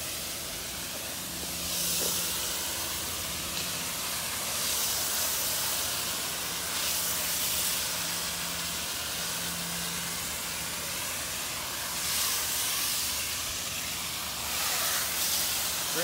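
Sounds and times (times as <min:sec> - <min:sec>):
pressure washer jet hissing: 0:00.0 - 0:16.0.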